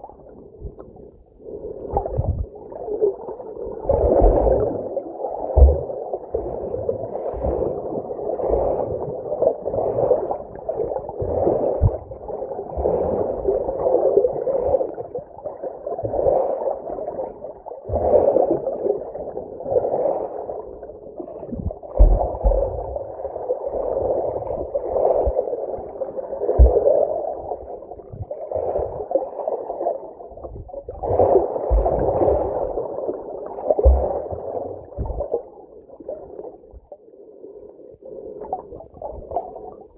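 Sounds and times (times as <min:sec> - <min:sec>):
water swishing underwater: 0:00.0 - 0:39.9.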